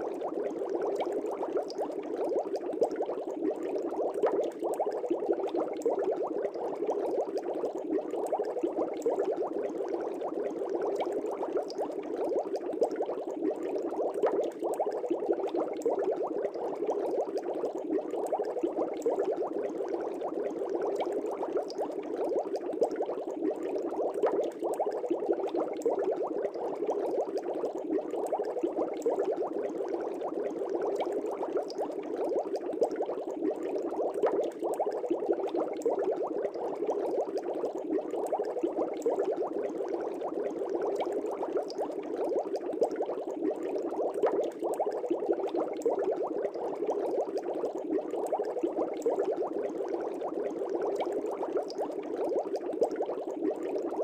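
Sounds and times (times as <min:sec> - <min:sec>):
aquarium air bubbling: 0:00.0 - 0:54.0.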